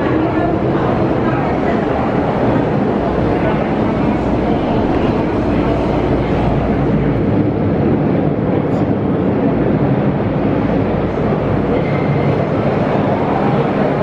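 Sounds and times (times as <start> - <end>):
faint voices: 0.0 - 14.0
train rumble: 0.0 - 14.0.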